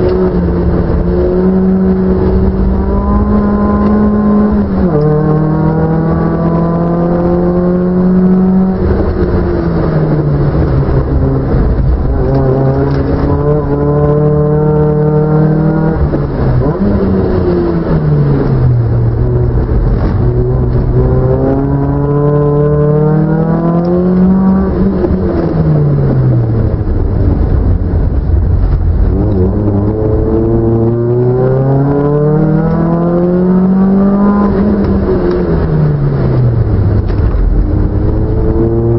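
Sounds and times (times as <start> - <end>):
car engine revving through gears: 0.0 - 38.9.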